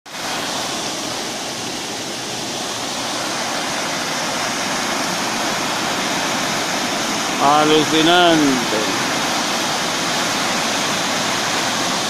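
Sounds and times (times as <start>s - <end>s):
river rushing through rapids: 0.1s - 12.0s.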